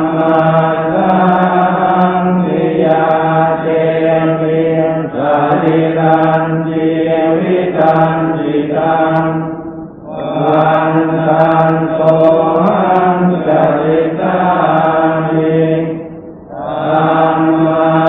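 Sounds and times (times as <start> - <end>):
voices chanting in monotone: 0.0 - 18.0.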